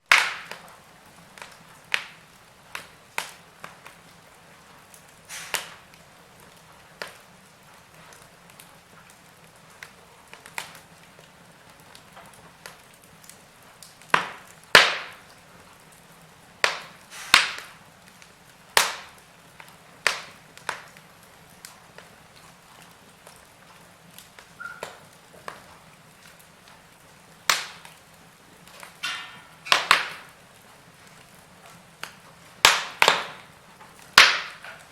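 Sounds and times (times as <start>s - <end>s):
faint steady hiss: 0.0s - 34.9s
wood fire crackling: 0.0s - 34.9s.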